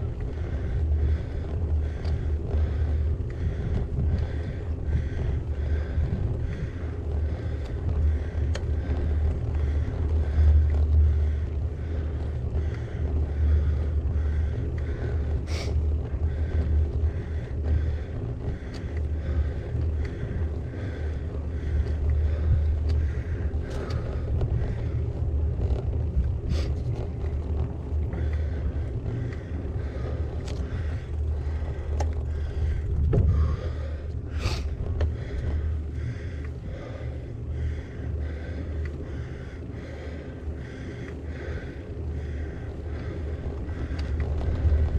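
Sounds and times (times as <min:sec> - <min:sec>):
bike clicks: 0:00.0 - 0:44.9
wind buffeting microphone: 0:00.0 - 0:44.9.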